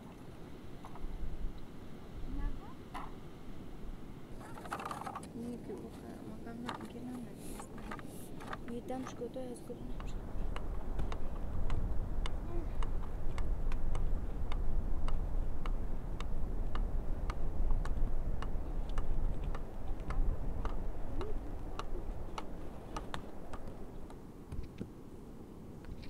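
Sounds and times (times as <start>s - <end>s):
low wind rumble: 0.0s - 26.0s.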